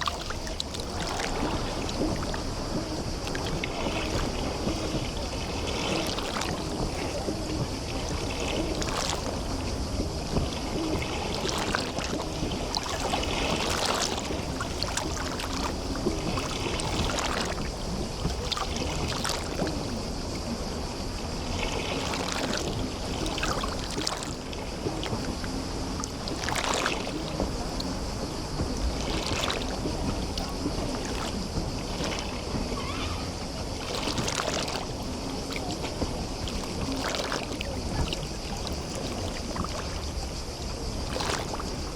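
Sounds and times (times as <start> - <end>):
low rumble of water and wind: 0.0 - 41.9
waves lapping on shore: 0.0 - 41.9.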